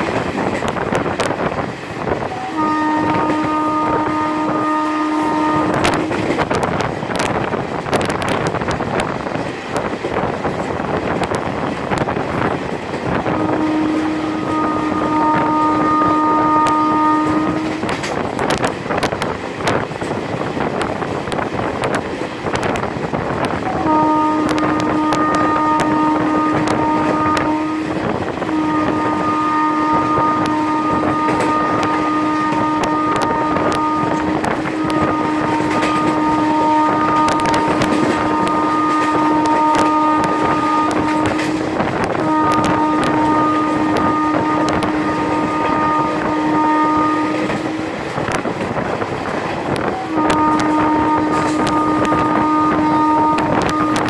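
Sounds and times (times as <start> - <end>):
train air horn blasts: 0.0 - 9.5, 10.9 - 20.3, 21.8 - 54.0
rushing wind: 0.0 - 54.0.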